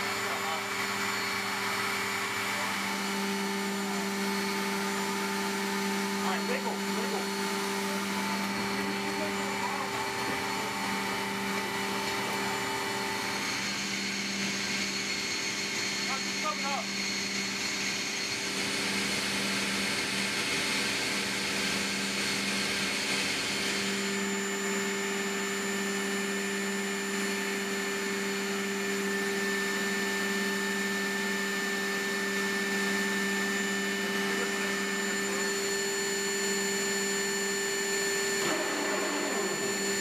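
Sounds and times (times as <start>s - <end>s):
aircraft cabin machinery drone: 0.0s - 40.0s.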